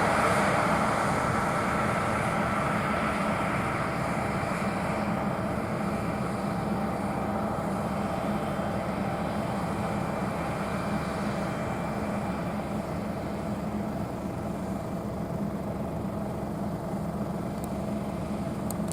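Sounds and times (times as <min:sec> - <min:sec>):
combine harvester running: 0:00.0 - 0:18.9.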